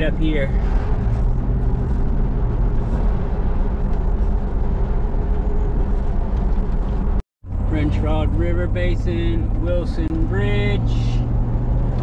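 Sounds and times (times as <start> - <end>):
car engine hum: 0.0 - 12.0
tyre noise on road: 0.0 - 12.0.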